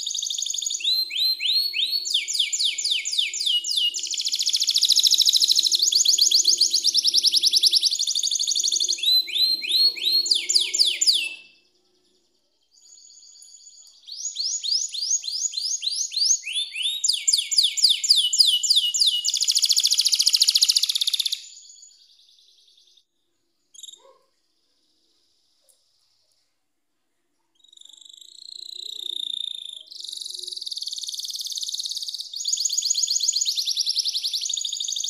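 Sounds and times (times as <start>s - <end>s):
canary singing trills: 0.0s - 23.0s, 23.7s - 26.0s, 27.5s - 35.0s.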